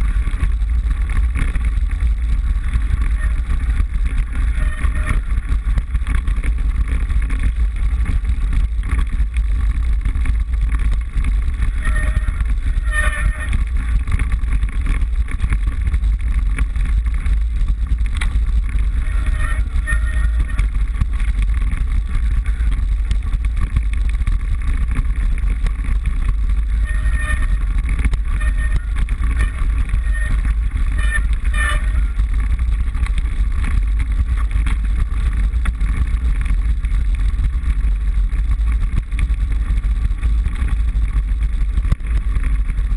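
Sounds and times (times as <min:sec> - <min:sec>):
bike rattling vibration: 0:00.0 - 0:42.9.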